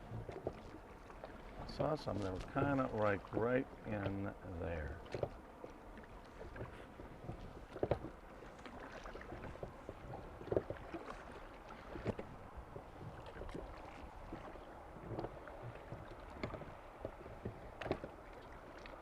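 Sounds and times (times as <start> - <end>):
boat knocks and clunks: 0.0 - 19.0
water lapping against boat: 0.0 - 19.0.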